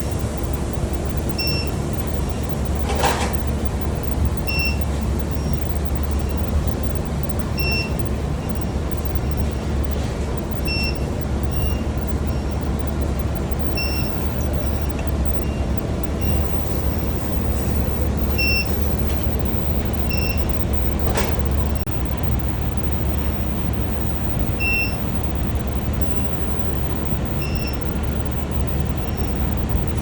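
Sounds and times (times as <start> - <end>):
melting furnace hum: 0.0 - 30.0
short high beeps: 0.0 - 30.0.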